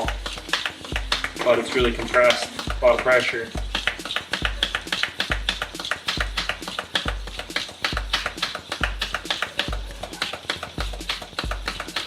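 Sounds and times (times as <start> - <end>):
fast clicky percussion: 0.0 - 12.0.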